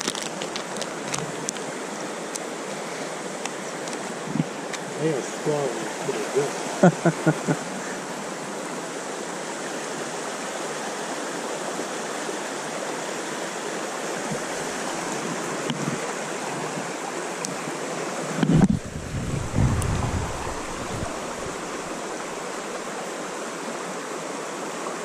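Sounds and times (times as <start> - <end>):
stream rushing water: 0.0 - 25.0.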